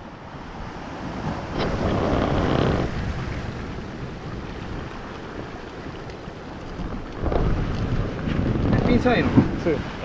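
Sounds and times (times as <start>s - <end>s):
surf washing over rocks: 0.0s - 10.0s
wind on microphone: 0.0s - 10.0s.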